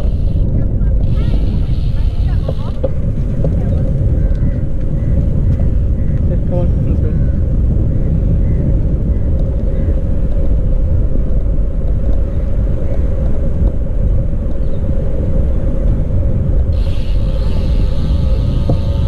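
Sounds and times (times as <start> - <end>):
low hum from bicycle ride: 0.0 - 19.0
wind on microphone: 0.0 - 19.0.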